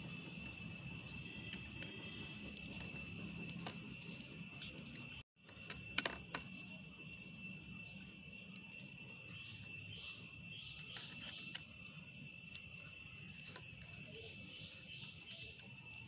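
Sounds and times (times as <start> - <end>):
steady high-pitched hum: 0.0 - 16.0.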